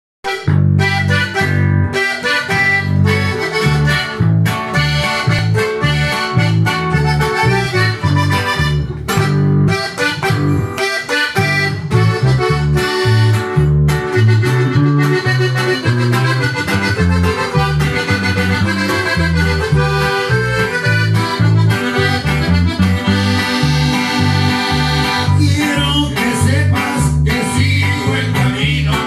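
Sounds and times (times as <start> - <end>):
button accordion playing melody: 0.2 - 29.0.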